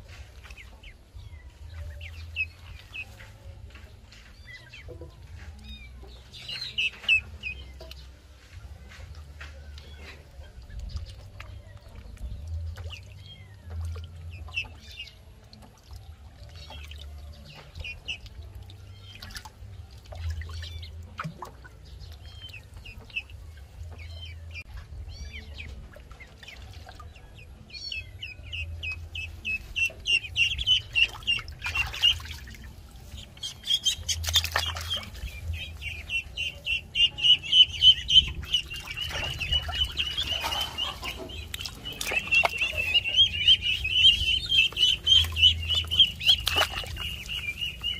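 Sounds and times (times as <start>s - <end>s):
ducklings peeping: 0.0s - 15.8s, 16.4s - 47.9s.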